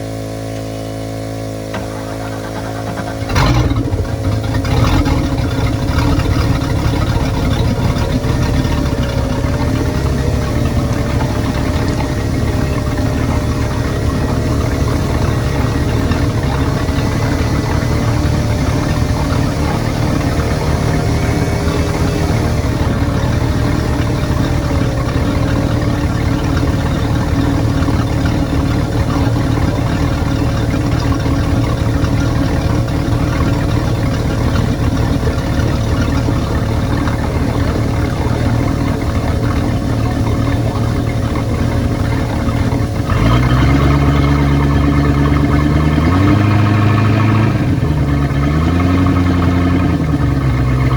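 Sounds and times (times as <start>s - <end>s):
boat engine idling and revving: 0.0s - 50.9s.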